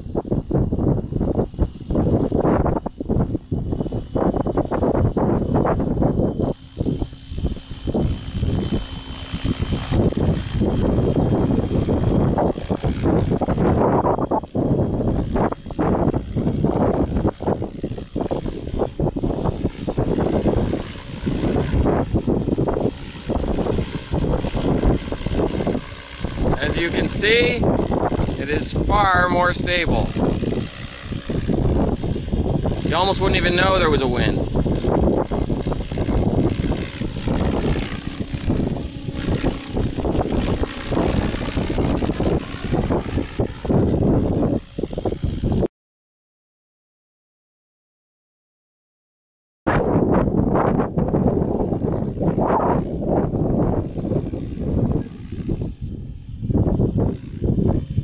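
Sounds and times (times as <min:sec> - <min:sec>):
helicopter high whine: 0:00.0 - 0:45.7, 0:49.7 - 0:58.0
wind buffeting microphone: 0:00.0 - 0:45.7, 0:49.7 - 0:58.0.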